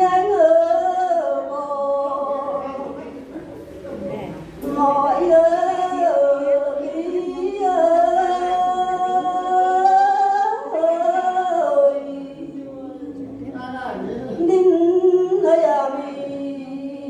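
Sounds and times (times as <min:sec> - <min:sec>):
woman singing into microphone: 0:00.0 - 0:03.0, 0:04.6 - 0:17.0.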